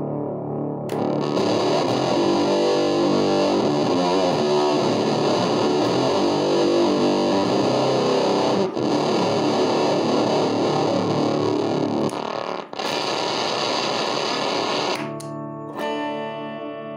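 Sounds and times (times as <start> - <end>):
fuzz electric guitar: 0.0 - 16.9.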